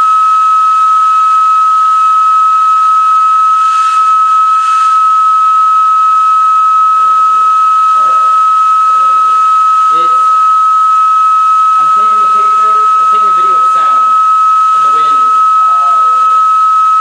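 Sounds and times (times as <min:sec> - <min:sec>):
organ pipe whistle-like tone: 0:00.0 - 0:17.0.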